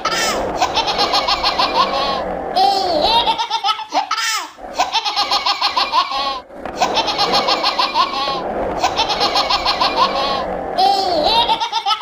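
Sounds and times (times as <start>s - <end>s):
baby giggling: 0.0s - 12.0s.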